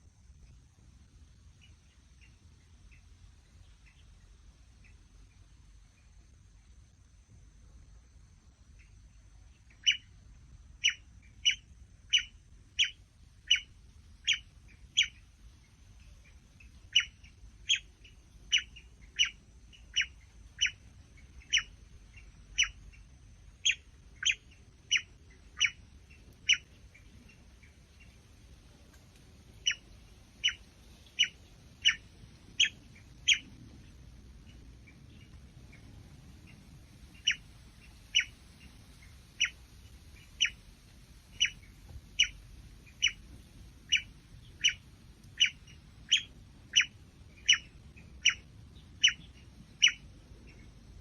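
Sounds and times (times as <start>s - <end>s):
bird chirping: 1.5s - 6.2s, 8.8s - 10.2s, 10.8s - 40.7s, 41.3s - 51.0s.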